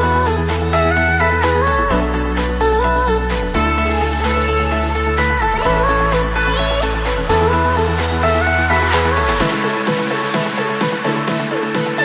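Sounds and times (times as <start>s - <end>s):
electronic dance music: 0.0s - 12.0s
low bass: 0.0s - 12.0s.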